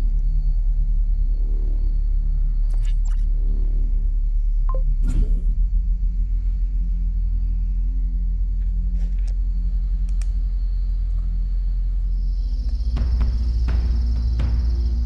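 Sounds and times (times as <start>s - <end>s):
low rumbling bass drone: 0.0s - 15.0s.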